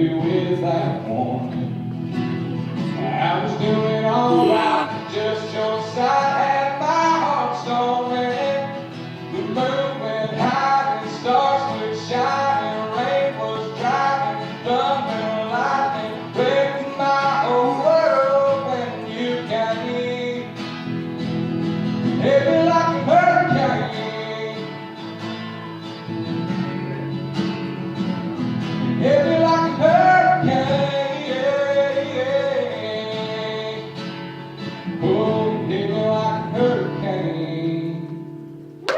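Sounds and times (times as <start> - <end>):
man singing country song: 0.0 - 1.8, 2.9 - 21.2, 21.8 - 25.3, 28.8 - 38.3
acoustic guitar: 0.0 - 38.9.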